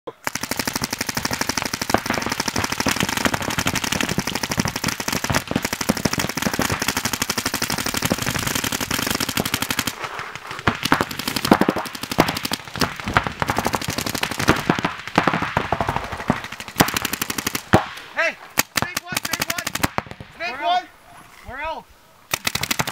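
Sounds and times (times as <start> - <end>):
paintball markers firing: 0.1 - 20.4, 22.3 - 22.9.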